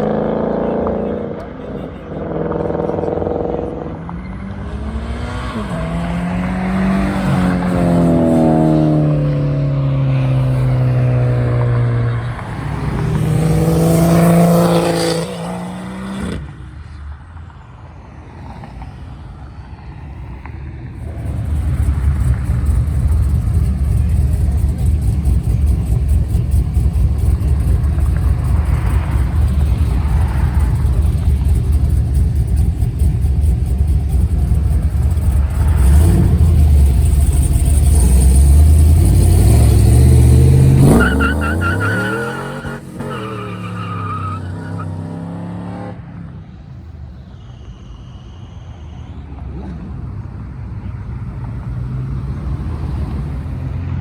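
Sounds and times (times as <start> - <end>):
car engine deep rumble: 0.0 - 54.0
car engine pulling away: 2.3 - 54.0.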